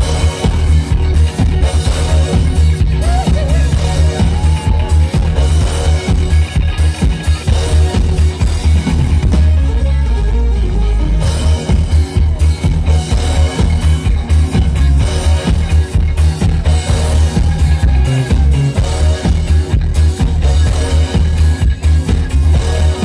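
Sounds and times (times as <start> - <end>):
drum kit: 0.0 - 23.0
electric guitars: 0.0 - 23.0
heavy booming bass: 0.0 - 23.0.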